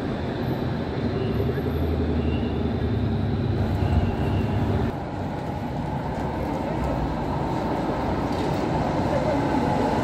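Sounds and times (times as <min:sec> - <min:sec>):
city street noise: 0:00.0 - 0:10.0
electric tram rumbling on rails: 0:00.0 - 0:10.0.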